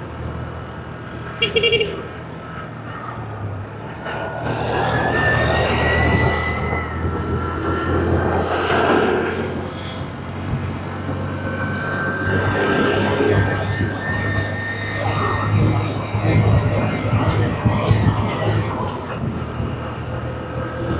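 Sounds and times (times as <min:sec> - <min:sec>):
vehicle low drone: 0:00.0 - 0:20.9.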